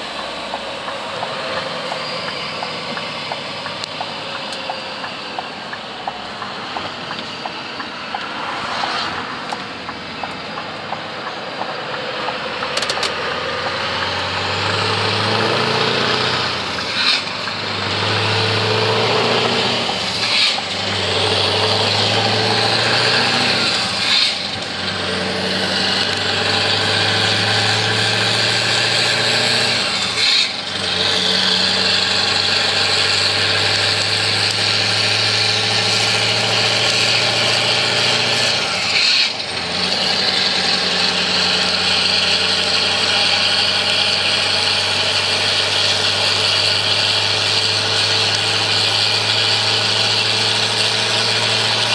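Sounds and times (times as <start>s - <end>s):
diesel truck exhaust note: 0.0s - 51.9s.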